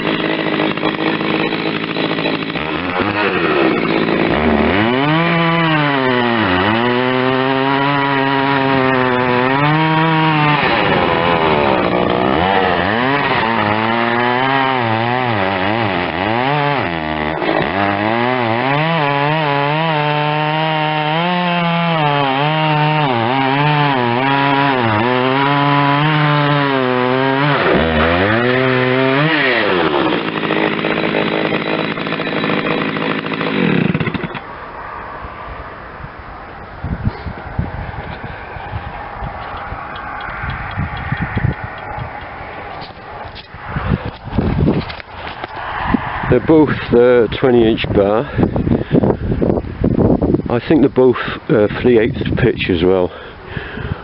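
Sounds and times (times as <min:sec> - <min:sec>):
chainsaw cutting wood: 0:00.0 - 0:34.6, 0:38.0 - 0:47.0.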